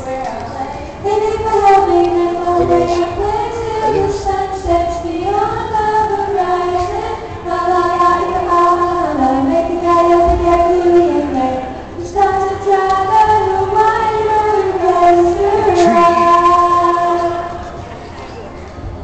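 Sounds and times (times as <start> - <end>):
young voices singing: 0.0 - 17.7
backing music: 1.0 - 17.8.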